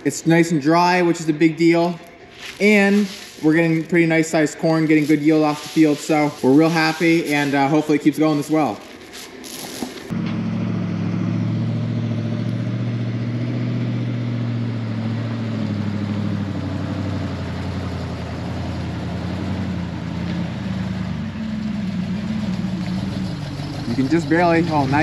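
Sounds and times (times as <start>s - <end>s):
truck engine running: 0.7s - 25.0s.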